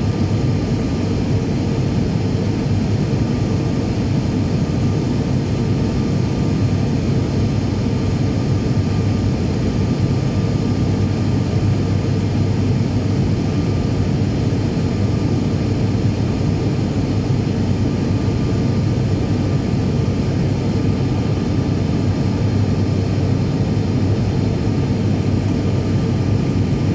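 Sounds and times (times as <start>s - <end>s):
thin steady engine whine: 0.0s - 26.9s
turboprop engines droning: 0.0s - 26.9s.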